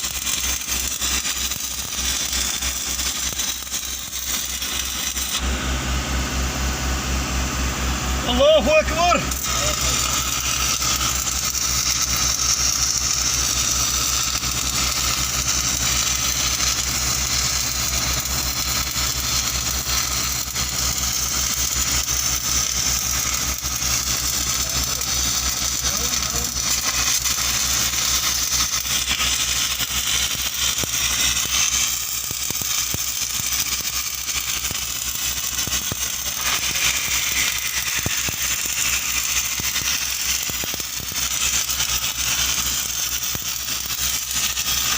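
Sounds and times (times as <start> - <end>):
welding arc crackling and hissing: 0.0 - 44.9.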